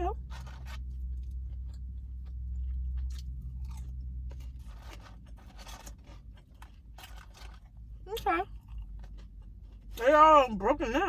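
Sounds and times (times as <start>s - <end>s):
steady low hum: 0.0s - 11.0s
person chewing food: 0.2s - 10.0s
soft crunches and mouth clicks: 0.2s - 10.0s.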